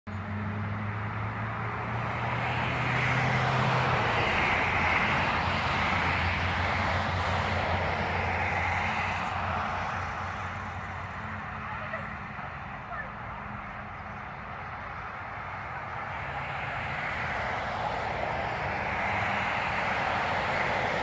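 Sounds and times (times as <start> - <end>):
low engine hum: 0.1 - 21.0
vehicle passing: 0.1 - 21.0.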